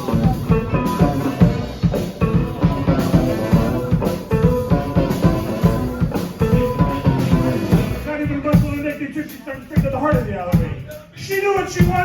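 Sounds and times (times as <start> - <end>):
guitar: 0.0 - 10.9
drum kit beat: 0.0 - 12.0.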